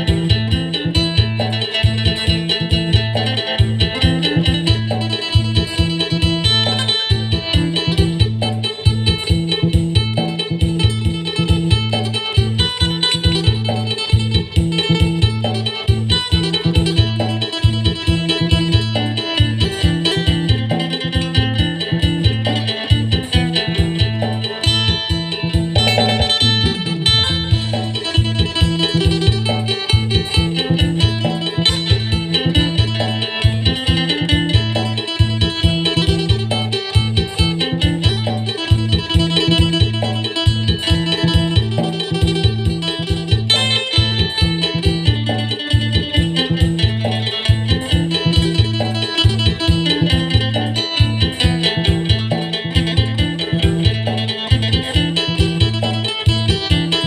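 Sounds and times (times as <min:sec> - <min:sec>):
low bass pulse: 0:00.0 - 0:56.9
plucked lute melody: 0:00.0 - 0:57.0.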